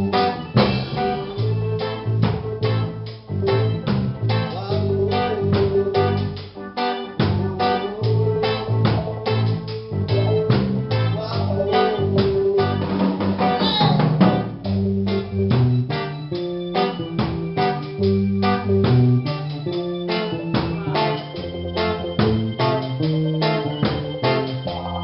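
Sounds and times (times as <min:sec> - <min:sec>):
bass guitar: 0:00.0 - 0:25.0
drum kit: 0:00.0 - 0:25.0
electric guitars: 0:00.0 - 0:25.0
keyboard: 0:00.0 - 0:25.0.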